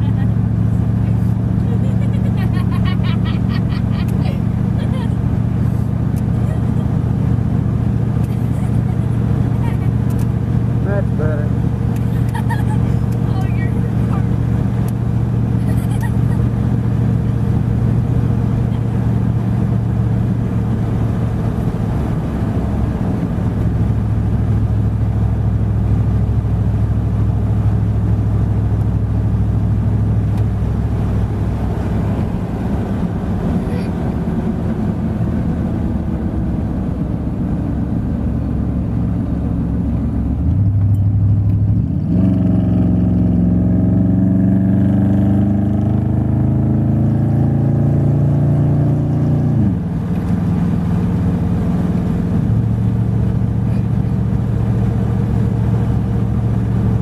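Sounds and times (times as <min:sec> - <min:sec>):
road noise: 0:00.0 - 0:57.0
truck engine: 0:00.0 - 0:57.0.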